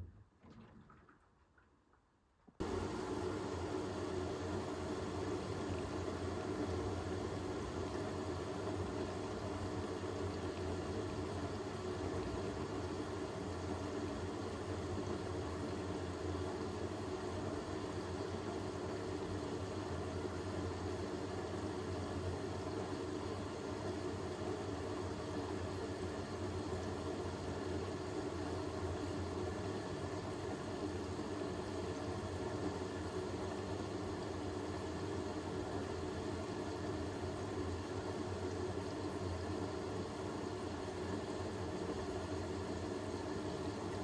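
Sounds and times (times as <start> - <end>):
washing machine running: 2.6 - 44.0.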